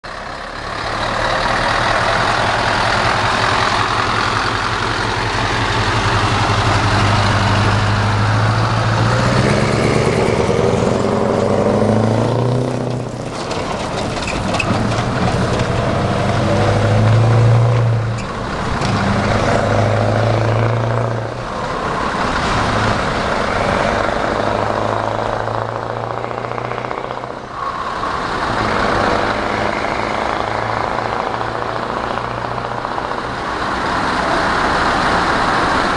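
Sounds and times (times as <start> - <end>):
truck engine revving through gears: 0.1 - 35.9.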